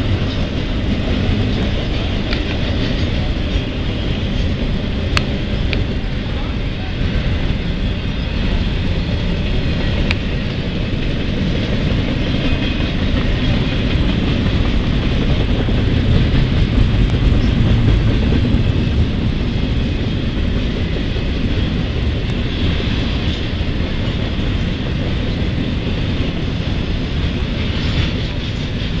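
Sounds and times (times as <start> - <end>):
freight train wheels rumbling on rail: 0.0 - 29.0.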